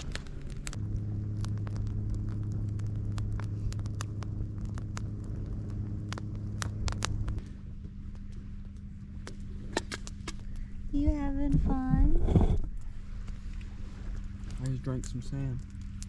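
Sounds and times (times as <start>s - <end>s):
sharp snaps of fire: 0.0s - 11.0s, 12.8s - 16.0s
campfire crackling and popping: 0.0s - 16.0s
steady low hum: 0.0s - 16.0s.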